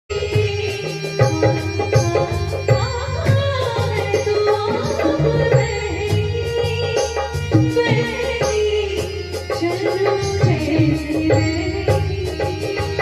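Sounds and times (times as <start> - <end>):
tabla rhythm: 0.1 - 13.0.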